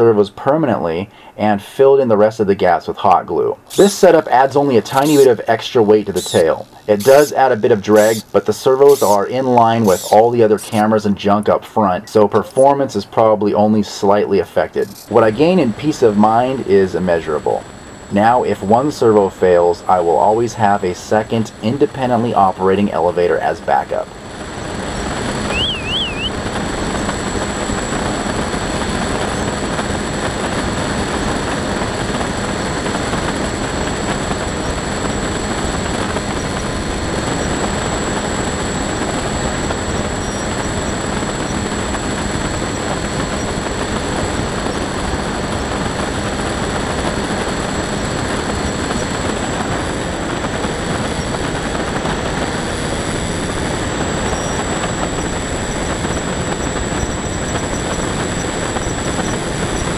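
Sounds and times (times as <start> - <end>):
electric motor and propeller running: 3.6 - 10.9, 14.8 - 59.9.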